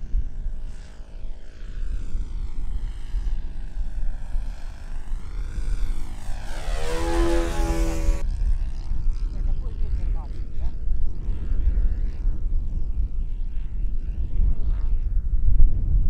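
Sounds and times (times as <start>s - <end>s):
model airplane motor whining: 0.0s - 15.2s.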